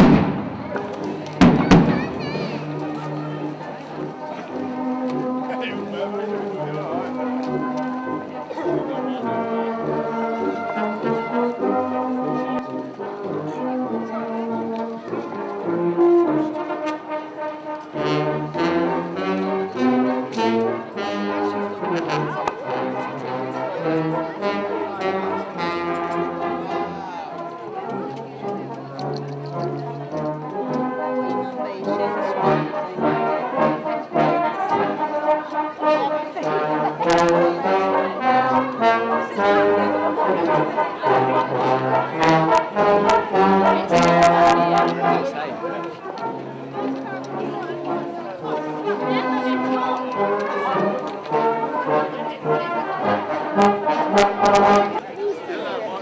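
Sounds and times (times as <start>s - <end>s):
brass band playing: 0.0s - 55.1s.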